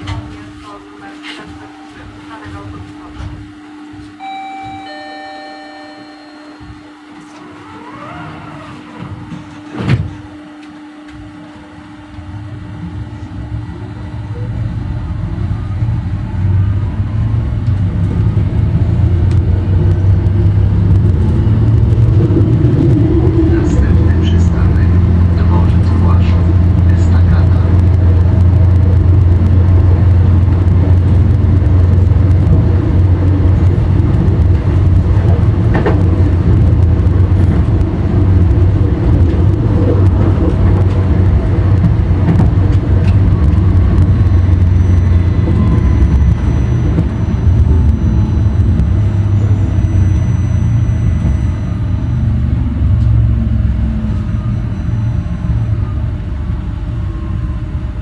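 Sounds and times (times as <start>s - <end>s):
faint motor whine: 0.0s - 58.0s
tram wheels rumbling on rails: 0.0s - 58.0s.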